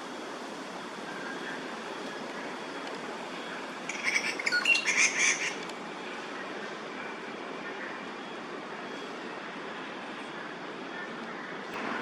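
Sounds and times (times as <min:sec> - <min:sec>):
distant city traffic: 0:00.0 - 0:12.0.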